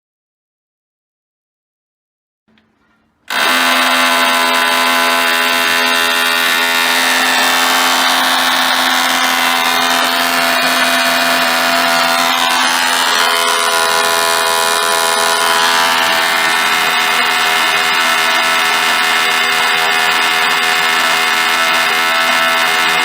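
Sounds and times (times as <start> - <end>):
power tool motor whining: 3.3 - 23.0.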